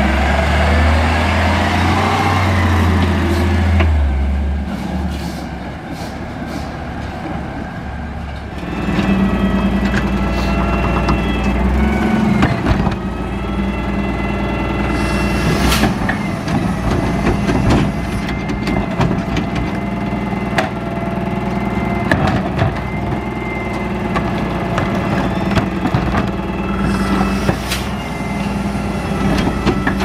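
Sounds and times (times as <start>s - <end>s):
garbage truck idling: 0.0s - 30.0s.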